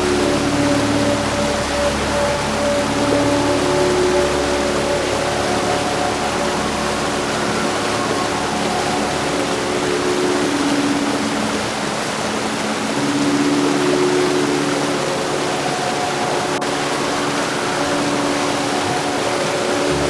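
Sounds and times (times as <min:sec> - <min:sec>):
heavy rain falling: 0:00.0 - 0:20.0
soft background music: 0:00.0 - 0:20.0.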